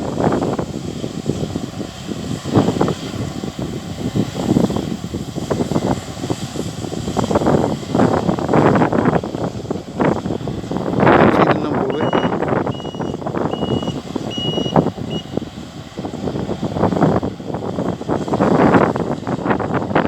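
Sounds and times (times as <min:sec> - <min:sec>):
harvesting machinery engine drone: 0:00.0 - 0:20.0
wind buffeting microphone: 0:00.0 - 0:20.0.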